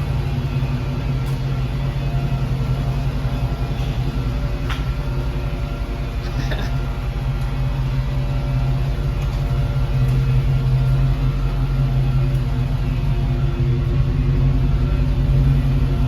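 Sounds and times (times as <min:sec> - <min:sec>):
car engine running at low revs: 0:00.0 - 0:16.0.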